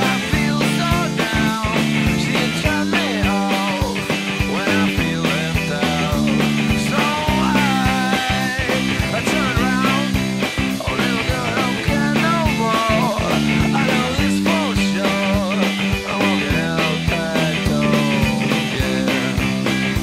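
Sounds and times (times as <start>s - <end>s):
background rock music: 0.0s - 20.0s.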